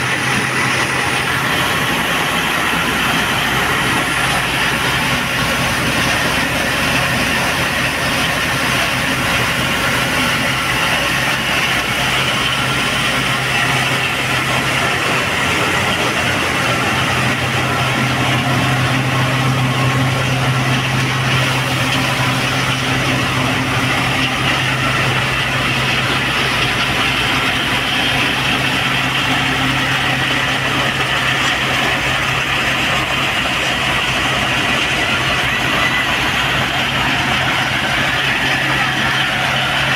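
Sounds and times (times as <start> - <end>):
thresher whirring: 0.0 - 39.9
tractor diesel engine hum: 0.0 - 39.9.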